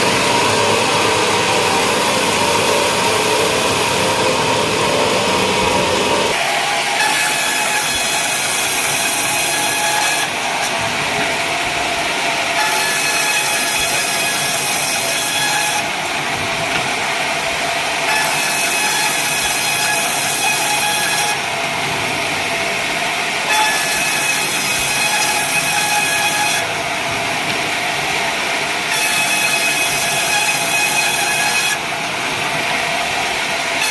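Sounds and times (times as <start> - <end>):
sawmill saw cutting timber: 0.0 - 33.9.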